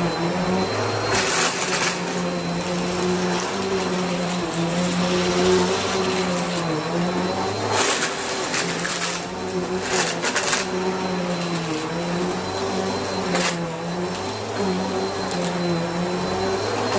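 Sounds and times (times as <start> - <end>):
vacuum cleaner motor hum: 0.0 - 16.9.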